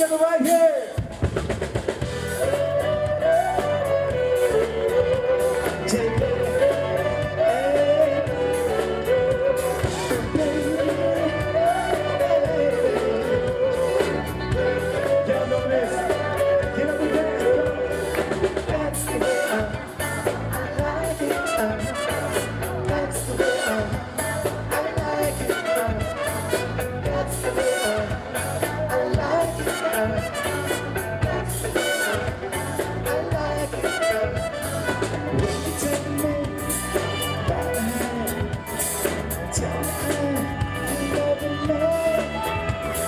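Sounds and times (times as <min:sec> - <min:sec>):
live band playing disco: 0:00.0 - 0:43.0
steady drum beat: 0:00.0 - 0:43.0
person singing: 0:02.1 - 0:43.0.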